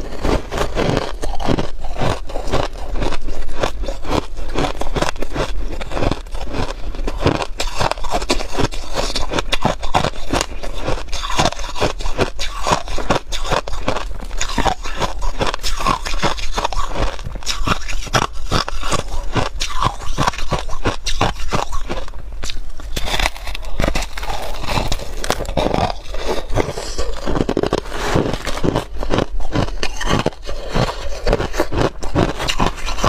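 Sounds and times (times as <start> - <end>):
ice being crunched and chewed: 0.0 - 33.0
ice chunks scraping: 0.0 - 33.0.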